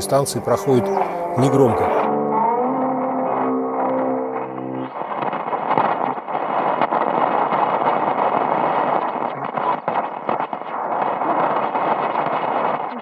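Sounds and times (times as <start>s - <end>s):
sharp radio crackles: 0.0s - 2.1s, 3.8s - 13.0s
shortwave radio static hiss: 0.0s - 2.1s, 4.4s - 13.0s.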